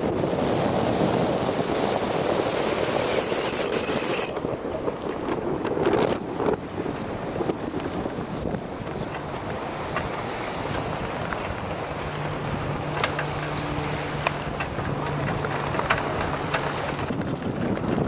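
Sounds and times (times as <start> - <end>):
low motor hum: 0.0 - 18.0
rushing water: 0.0 - 18.0
wind buffeting microphone: 0.0 - 18.0.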